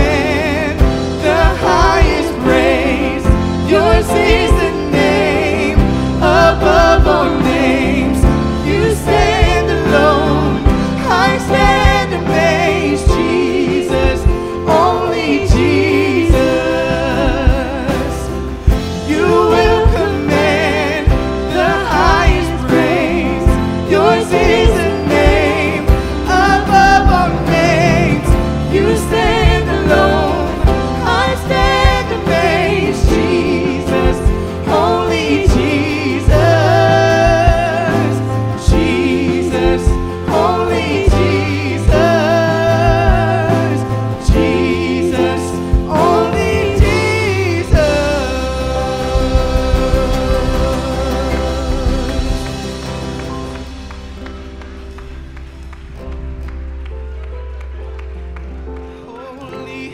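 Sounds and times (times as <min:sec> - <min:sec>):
instrumental backing with beat: 0:00.0 - 0:59.2
worship song singing: 0:00.0 - 0:59.9.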